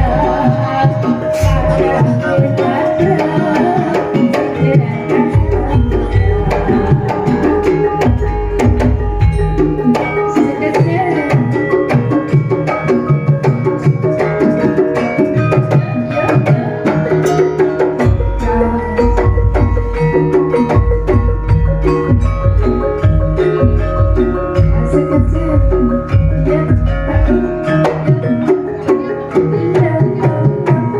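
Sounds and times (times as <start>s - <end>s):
metallophones and gongs playing: 0.0s - 30.9s.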